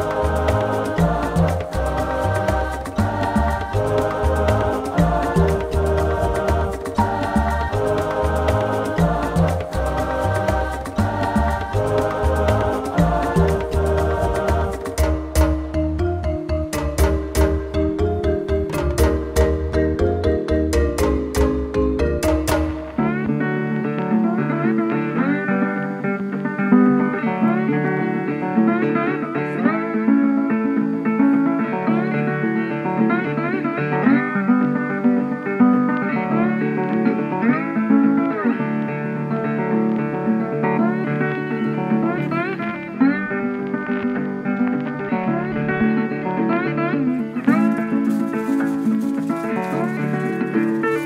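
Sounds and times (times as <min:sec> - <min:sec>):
plucked guitar music: 0:00.0 - 0:51.0.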